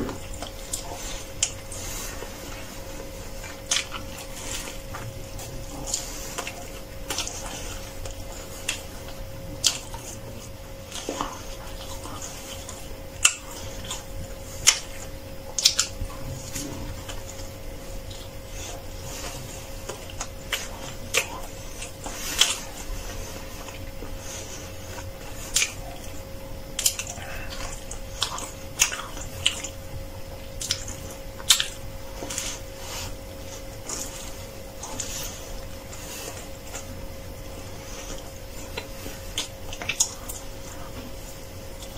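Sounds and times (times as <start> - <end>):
crunching of crisp bread: 0.0 - 41.9
wet chewing mouth sounds: 0.0 - 41.9.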